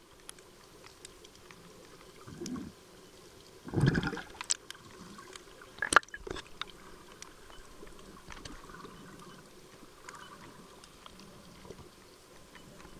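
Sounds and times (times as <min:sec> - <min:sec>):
faint ticks: 0:00.0 - 0:03.6, 0:04.2 - 0:12.9
underwater water wash: 0:00.0 - 0:12.9.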